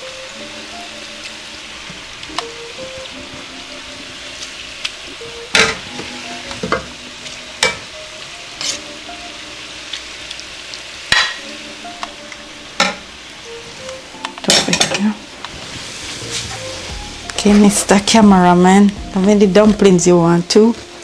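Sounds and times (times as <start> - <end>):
dumplings sizzling in oil: 0.0 - 21.0.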